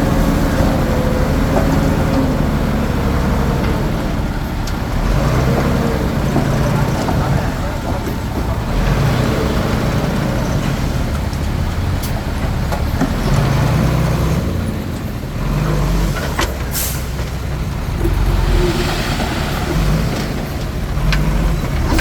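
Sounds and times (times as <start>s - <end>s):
bulldozer diesel engine working: 0.0s - 22.0s.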